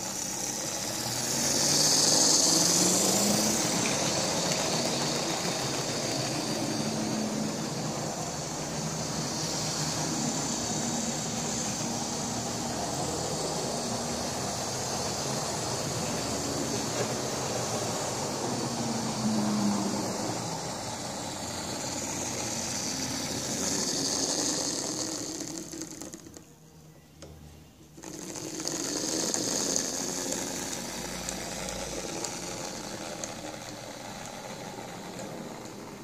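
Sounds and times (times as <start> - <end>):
model train motor whirring: 0.0 - 26.5, 27.9 - 36.0
wheels rolling over rails: 0.0 - 26.5, 27.9 - 36.0.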